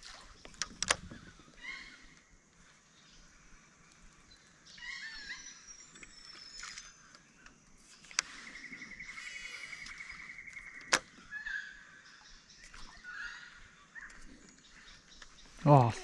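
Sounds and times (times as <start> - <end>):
birds chirping: 0.3 - 16.0.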